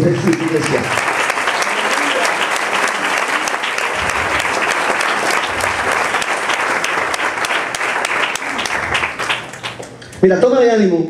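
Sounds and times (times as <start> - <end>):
congregation applauding: 0.0 - 10.3.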